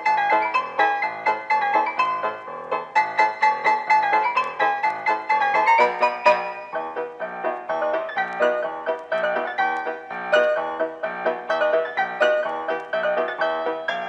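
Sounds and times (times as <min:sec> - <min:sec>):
bouncy piano music: 0:00.0 - 0:14.0.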